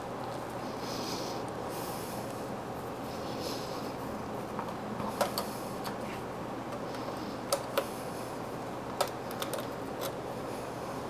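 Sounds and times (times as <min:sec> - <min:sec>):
computer fans whirring: 0:00.0 - 0:11.0.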